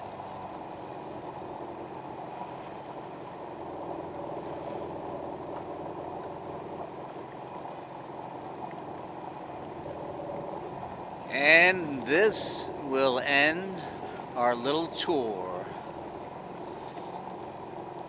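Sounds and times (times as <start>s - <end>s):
boat motor running: 0.0s - 18.0s
water washing along hull: 0.0s - 18.0s.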